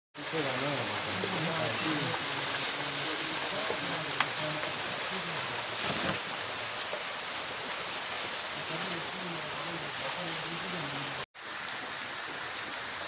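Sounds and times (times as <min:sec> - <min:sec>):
water rushing: 0:00.2 - 0:13.0.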